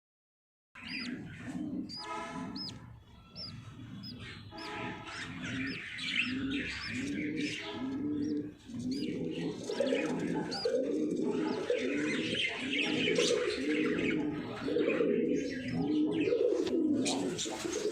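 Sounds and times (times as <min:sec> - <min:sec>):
birds chirping: 0:00.8 - 0:17.9
birds cooing: 0:00.8 - 0:17.9.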